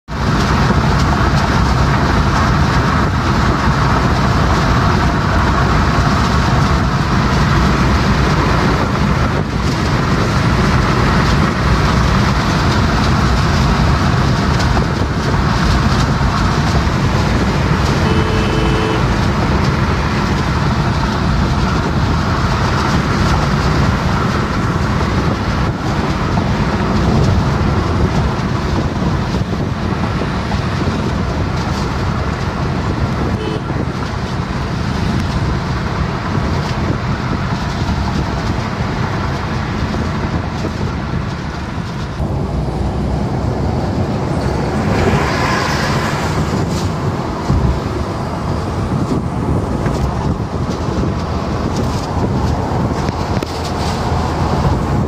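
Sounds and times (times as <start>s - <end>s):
car cabin road noise: 0.0s - 55.0s.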